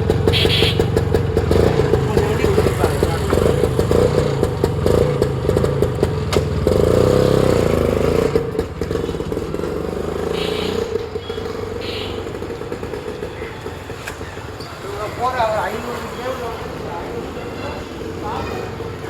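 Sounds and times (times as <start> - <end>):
scooter engine revving: 0.0 - 19.0.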